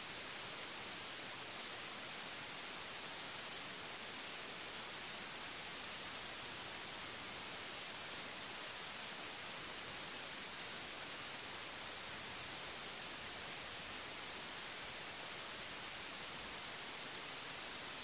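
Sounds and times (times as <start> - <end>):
steady static hiss: 0.0 - 18.0.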